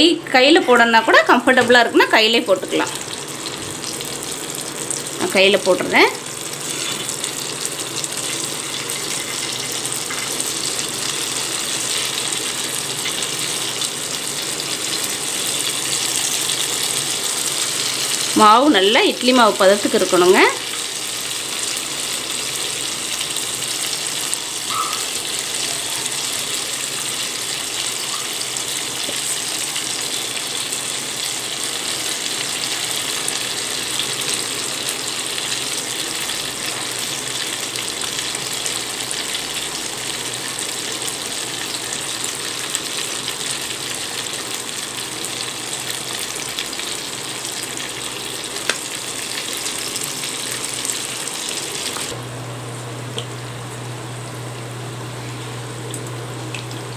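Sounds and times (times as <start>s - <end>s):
fritters sizzling in hot oil: 1.5s - 52.2s.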